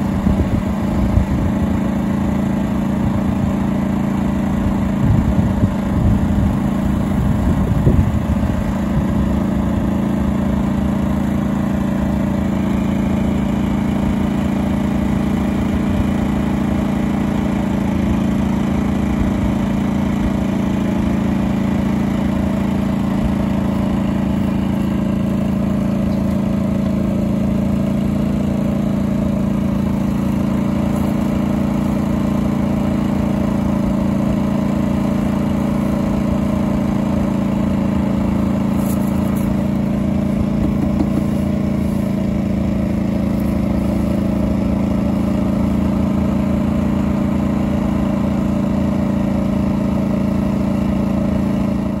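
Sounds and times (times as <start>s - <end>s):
generator engine droning: 0.0s - 52.0s.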